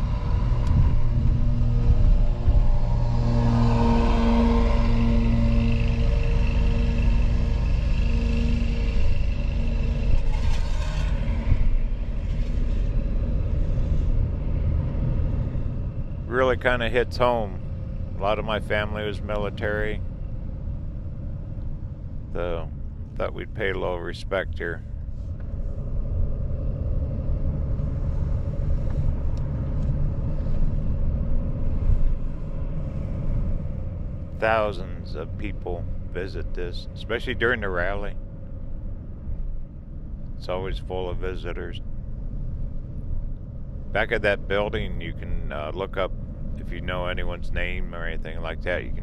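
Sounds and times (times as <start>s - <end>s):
faint steady hum: 0.0s - 49.0s
van engine and tyres rumbling: 0.0s - 49.0s.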